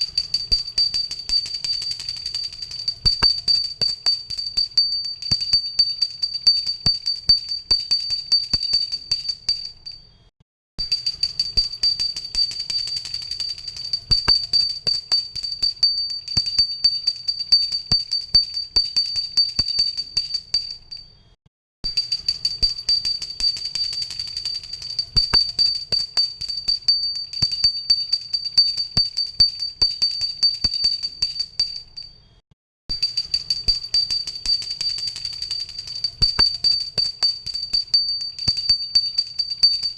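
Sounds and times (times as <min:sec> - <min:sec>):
hand bell ringing rapidly: 0:00.0 - 0:10.0, 0:10.8 - 0:21.0, 0:21.9 - 0:32.1, 0:32.9 - 0:39.9.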